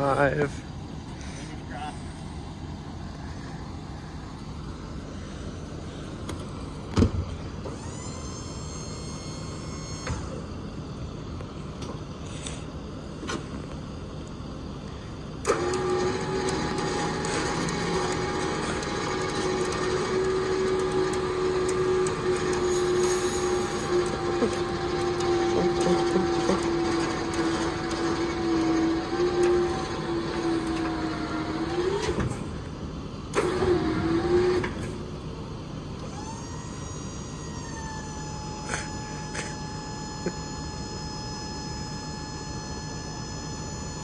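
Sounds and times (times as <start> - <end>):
hydraulic hoist whine: 0.0 - 44.0
steady hum: 0.0 - 44.0.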